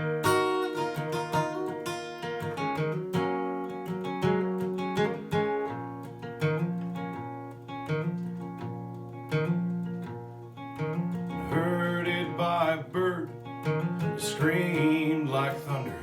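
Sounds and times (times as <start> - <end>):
acoustic guitar strummed and picked: 0.0 - 16.0.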